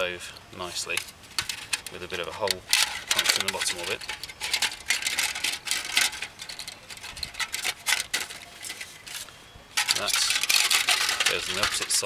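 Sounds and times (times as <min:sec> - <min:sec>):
aluminium foil crinkling: 0:00.8 - 0:12.0.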